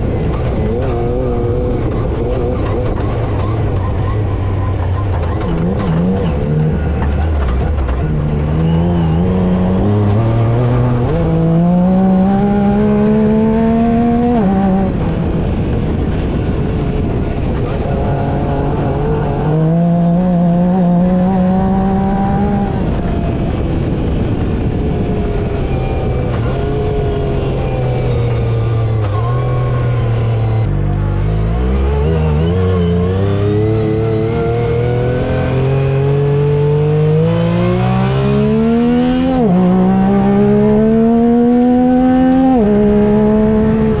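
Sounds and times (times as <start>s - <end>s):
vehicle engine revving: 0.0s - 44.0s.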